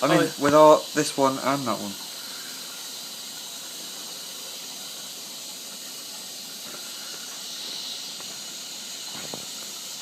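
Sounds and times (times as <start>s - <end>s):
water running into drum: 0.0s - 10.0s.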